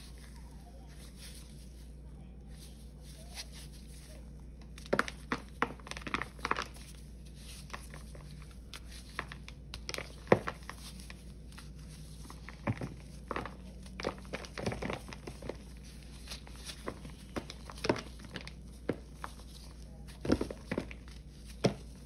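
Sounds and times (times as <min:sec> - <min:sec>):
paste ball crunching and crumbling: 0:00.0 - 0:22.0.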